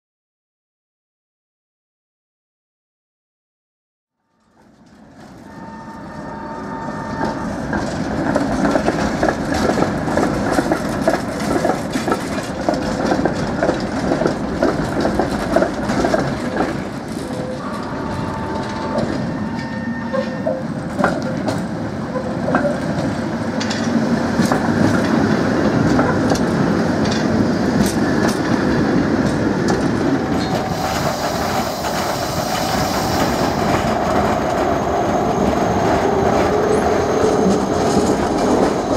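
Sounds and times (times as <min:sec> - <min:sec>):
tram wheels squealing: 0:04.4 - 0:24.0, 0:25.8 - 0:38.9
tram wheels clattering over rails: 0:06.9 - 0:38.9.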